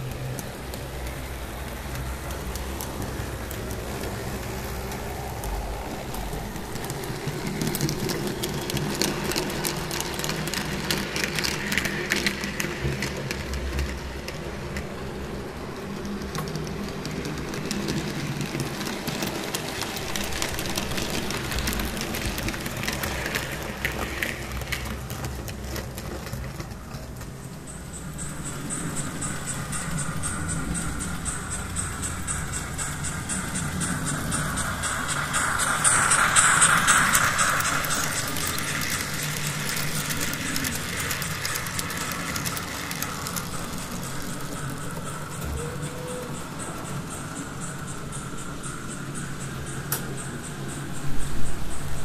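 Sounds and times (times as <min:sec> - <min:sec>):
model train motor hum: 0:00.0 - 0:52.0
small wheels clicking over rails: 0:00.0 - 0:52.0.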